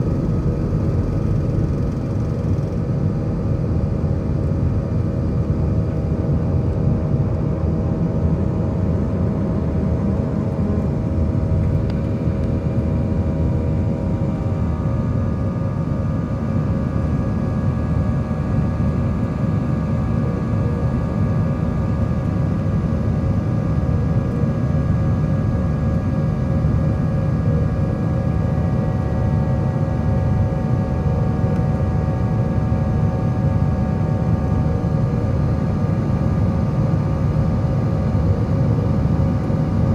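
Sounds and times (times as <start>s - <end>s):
humming whine: 0.0s - 39.9s
jet engine cabin rumble: 0.0s - 39.9s.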